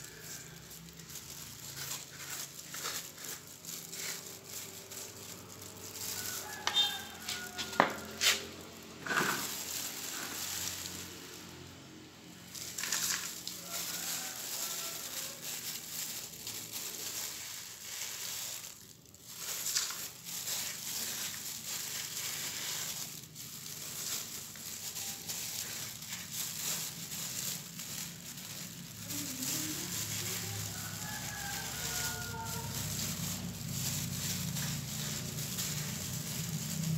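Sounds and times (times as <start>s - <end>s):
hand scraping potting soil: 0.0s - 11.6s, 12.4s - 36.9s
plastic glove crinkling: 0.0s - 36.9s.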